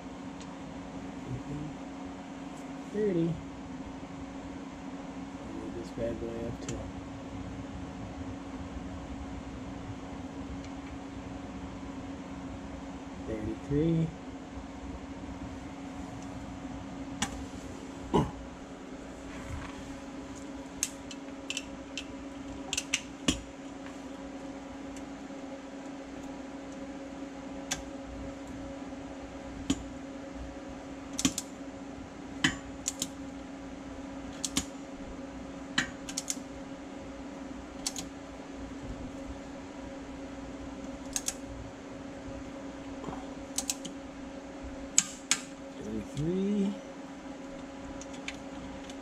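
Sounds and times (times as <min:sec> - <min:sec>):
steady hum: 0:00.0 - 0:49.0.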